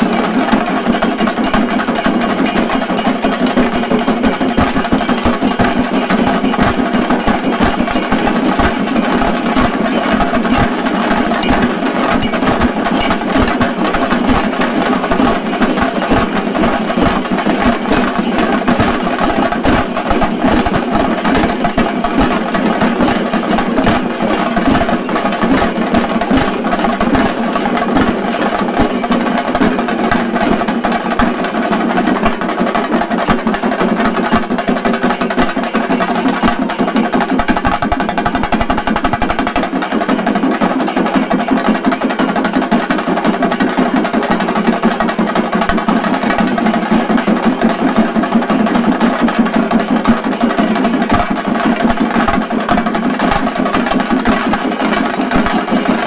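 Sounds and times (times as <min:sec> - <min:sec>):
drums beaten fast: 0:00.0 - 0:56.0.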